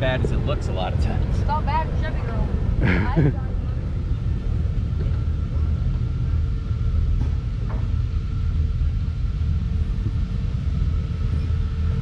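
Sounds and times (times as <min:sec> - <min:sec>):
faint constant whine: 0:00.0 - 0:12.0
off-road vehicle engine rumbling: 0:00.0 - 0:12.0.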